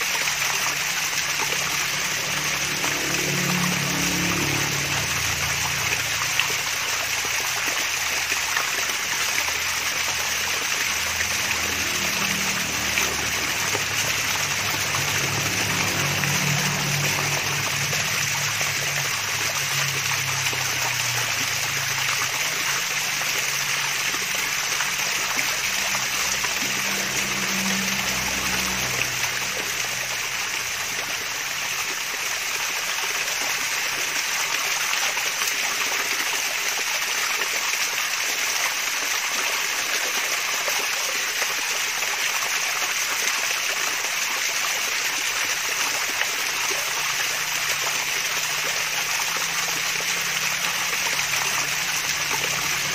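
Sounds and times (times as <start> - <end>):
small waterfall splashing: 0.0 - 52.9.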